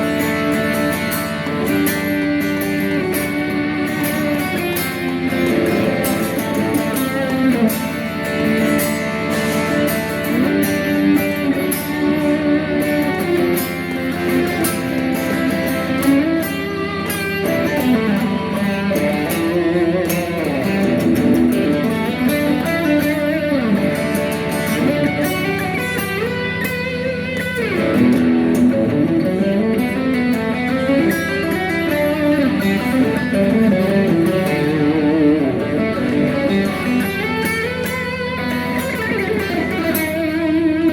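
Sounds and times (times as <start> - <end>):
rock music with electric guitar: 0.0 - 40.9
sliding guitar lines: 0.0 - 40.9.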